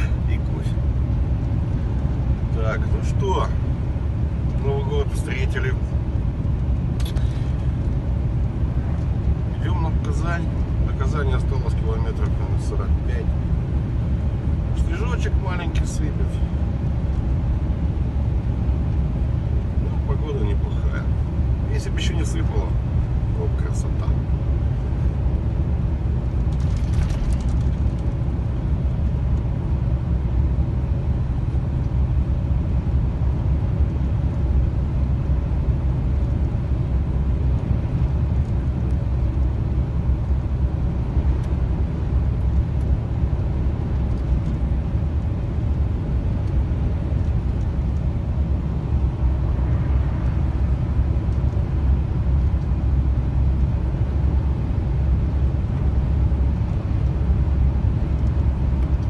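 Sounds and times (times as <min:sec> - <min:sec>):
road noise: 0:00.0 - 0:59.0
truck engine drone: 0:00.0 - 0:59.0.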